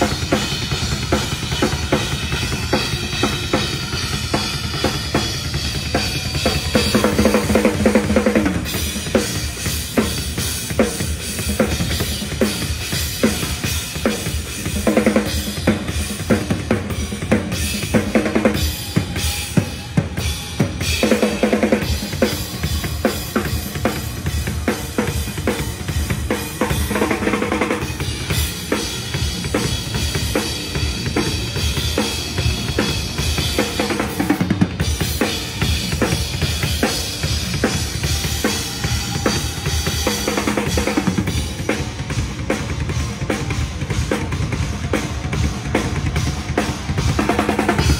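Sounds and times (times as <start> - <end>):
metal drum kit playing: 0.0 - 47.9.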